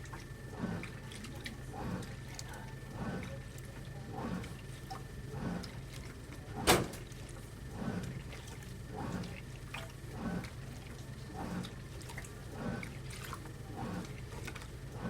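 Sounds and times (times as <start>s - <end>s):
washing machine motor hum: 0.0s - 15.0s
washing machine water sloshing: 0.0s - 15.0s.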